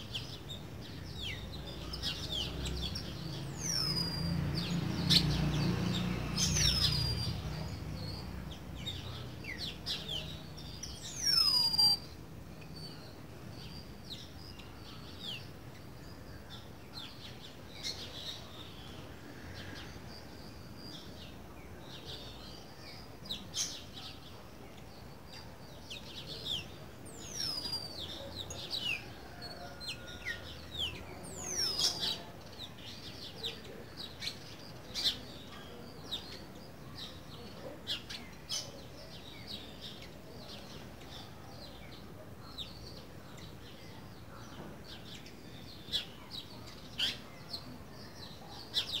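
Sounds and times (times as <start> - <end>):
bird chirping: 0.0 - 49.0.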